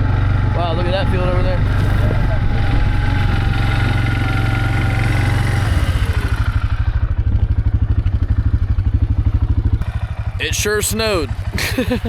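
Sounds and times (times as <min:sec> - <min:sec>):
small vehicle engine running: 0:00.0 - 0:12.0.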